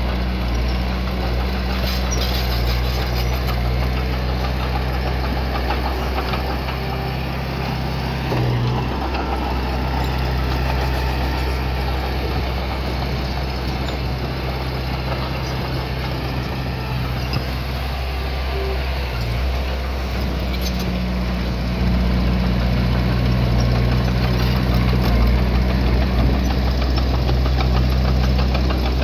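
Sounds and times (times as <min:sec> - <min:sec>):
diesel engine running at low revs: 0:00.0 - 0:29.0.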